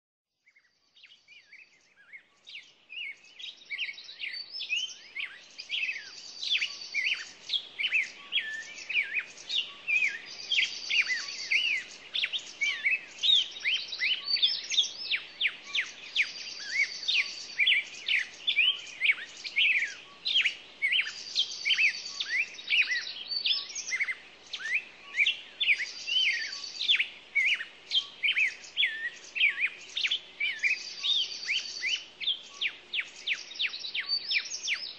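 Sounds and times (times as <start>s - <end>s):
small birds chirping: 0.4s - 34.9s.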